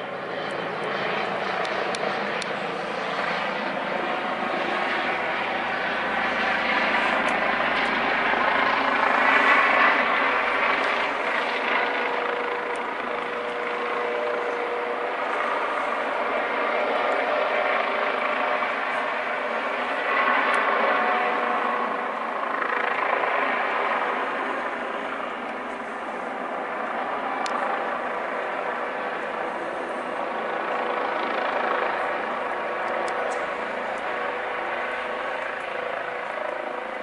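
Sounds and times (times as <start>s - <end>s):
helicopter hovering: 0.0s - 37.0s.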